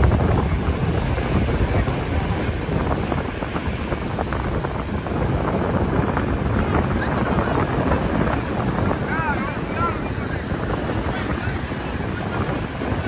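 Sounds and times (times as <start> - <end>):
surf washing up the beach: 0.0 - 13.0
wind buffeting the microphone: 0.0 - 13.0.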